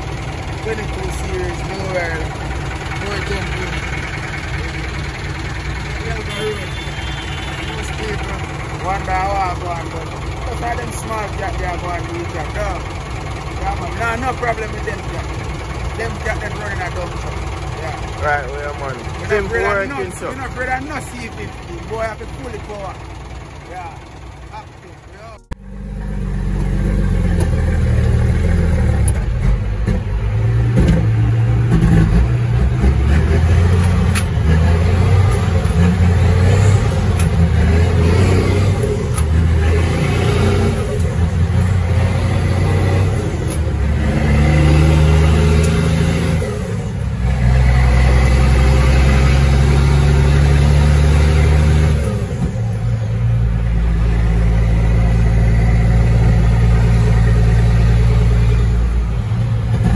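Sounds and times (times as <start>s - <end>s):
diesel truck engine under load: 0.0s - 59.9s.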